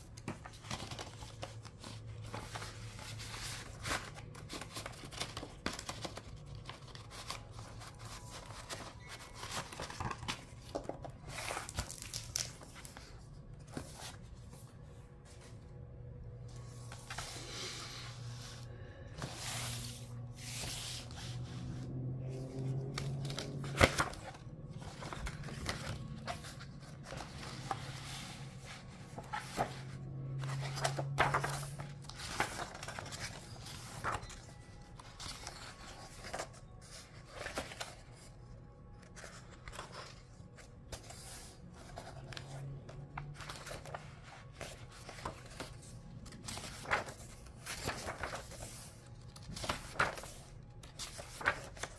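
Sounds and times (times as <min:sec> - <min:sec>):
book pages turning: 0:00.0 - 0:51.9
paper rustling and sliding: 0:00.1 - 0:15.6, 0:16.5 - 0:38.3, 0:39.0 - 0:51.9.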